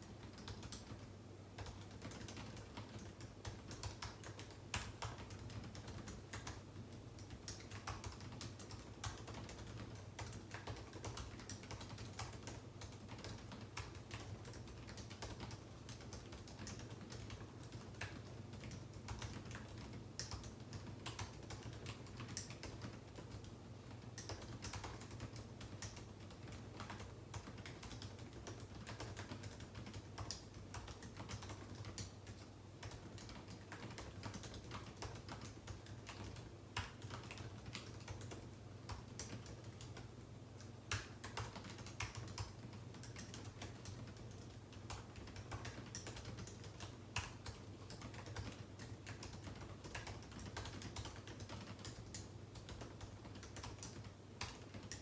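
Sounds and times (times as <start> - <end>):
typing on computer keyboard: 0.0 - 55.0.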